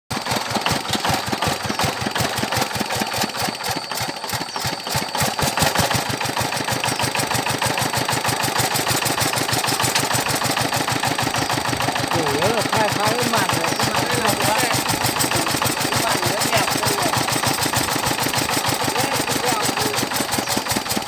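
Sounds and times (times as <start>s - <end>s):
diesel tractor engine chugging: 0.1s - 21.0s.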